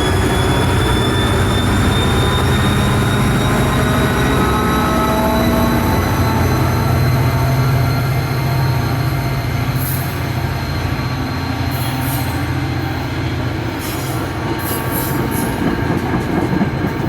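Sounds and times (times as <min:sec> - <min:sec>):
train cars rolling past: 0:00.0 - 0:17.0
wheels squealing on rails: 0:00.0 - 0:17.0.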